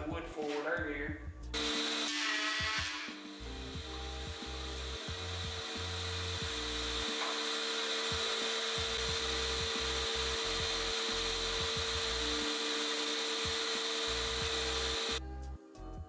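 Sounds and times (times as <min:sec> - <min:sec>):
jointer running: 0:01.6 - 0:15.2.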